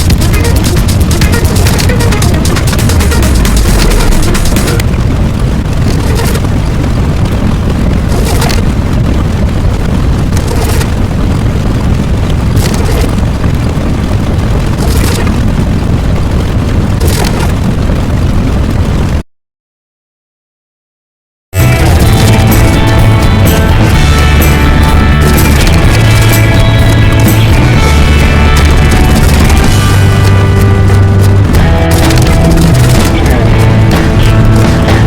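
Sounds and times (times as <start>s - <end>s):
loud deep rumble: 0.0s - 19.2s, 21.6s - 35.0s
short crackling bursts: 0.0s - 19.2s, 21.6s - 35.0s.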